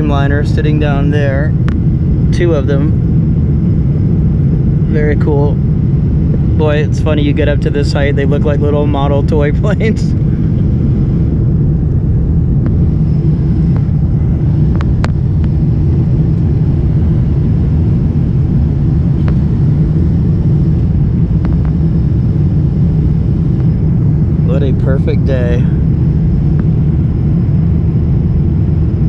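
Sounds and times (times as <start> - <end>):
airplane cabin engine roar: 0.0 - 29.0
faint high whine: 0.0 - 29.0.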